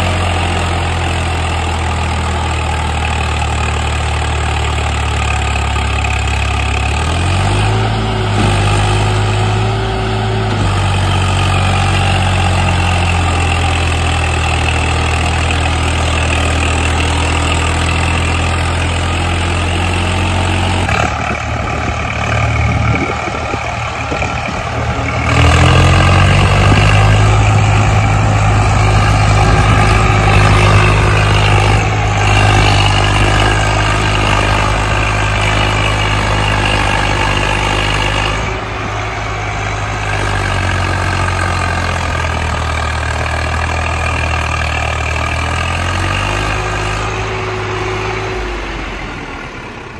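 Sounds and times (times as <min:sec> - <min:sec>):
tractor diesel engine working hard: 0:00.0 - 0:49.9.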